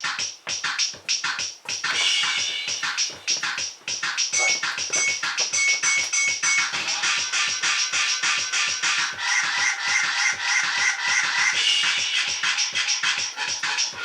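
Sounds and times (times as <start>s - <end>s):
electronic music with scratching: 0.0s - 14.0s.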